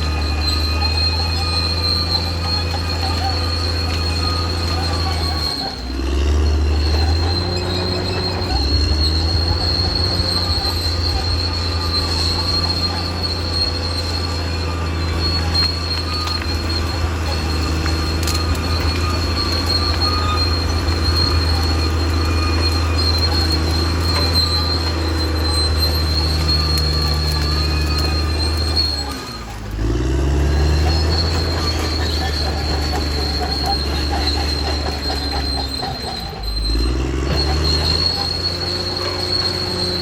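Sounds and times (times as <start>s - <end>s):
bulldozer diesel engine running: 0.0s - 40.0s
high-pitched squeal: 0.0s - 40.0s.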